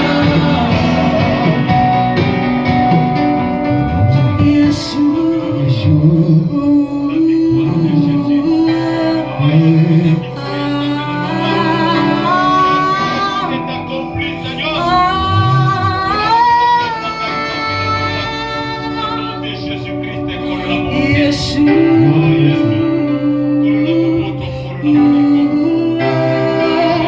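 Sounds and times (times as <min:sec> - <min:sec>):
instrumental accompaniment: 0:00.0 - 0:27.0
person singing: 0:00.0 - 0:27.0.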